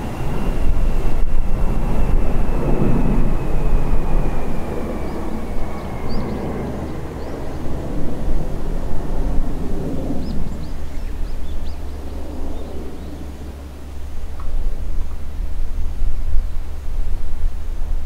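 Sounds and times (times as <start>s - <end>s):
thin engine whine: 0.0s - 17.0s
airliner engines rumbling: 0.0s - 18.0s.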